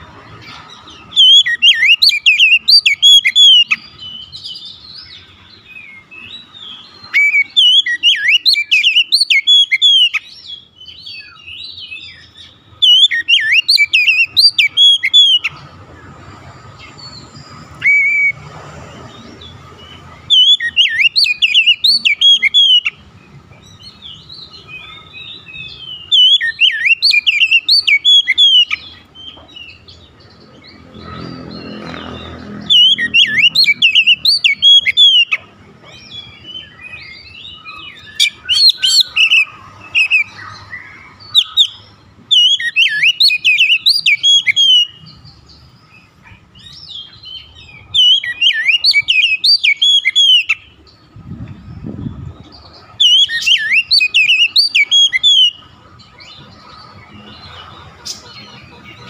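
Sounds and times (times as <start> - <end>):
bird singing whistles and chirps: 0.0 - 15.6, 16.8 - 18.5, 19.1 - 56.5.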